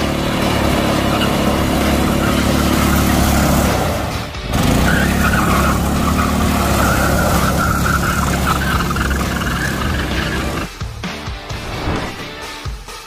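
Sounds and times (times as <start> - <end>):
tyres squealing: 0.0 - 10.7
small engine running: 0.0 - 10.8.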